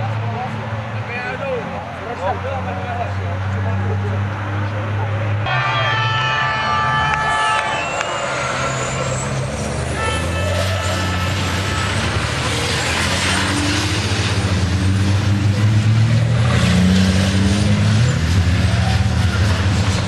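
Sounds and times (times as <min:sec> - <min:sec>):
diesel truck engines accelerating: 0:00.0 - 0:20.0.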